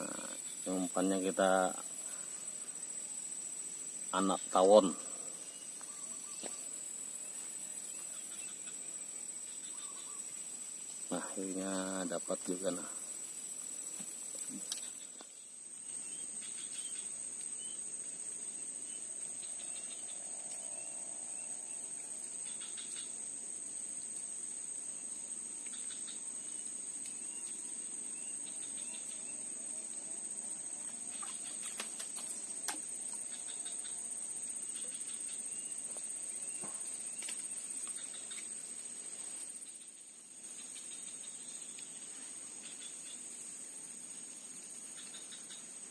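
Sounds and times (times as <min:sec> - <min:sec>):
insects shrilling: 0:00.0 - 0:45.9.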